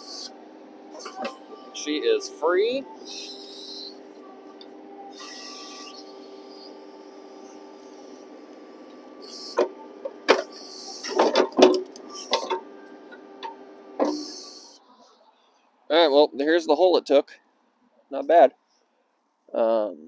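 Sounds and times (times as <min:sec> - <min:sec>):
tractor diesel engine running: 0:00.0 - 0:17.3.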